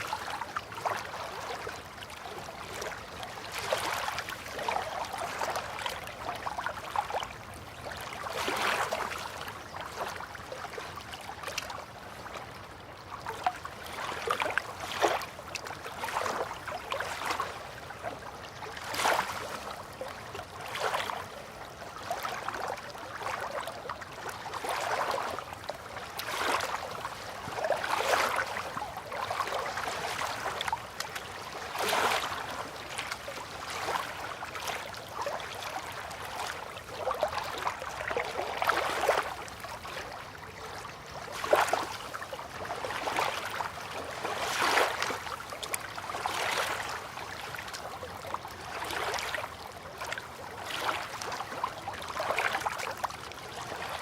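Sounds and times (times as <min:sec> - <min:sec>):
river water lapping: 0:00.0 - 0:54.0.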